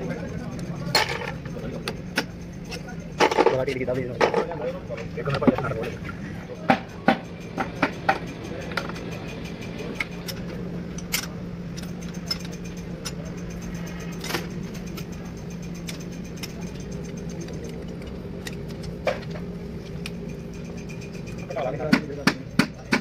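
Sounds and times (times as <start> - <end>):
metallic clinks of tools: 0.0 - 22.9
motor humming: 0.0 - 22.9.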